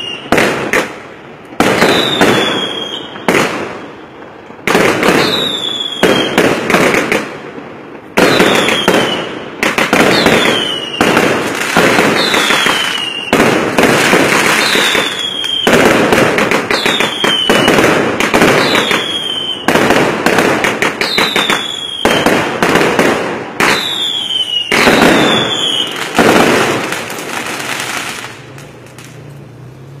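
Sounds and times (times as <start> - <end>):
fireworks falling whistle: 0.0 - 0.9, 1.6 - 6.8, 8.2 - 29.2
fireworks bangs: 0.0 - 29.4
fireworks crackling: 0.0 - 30.0.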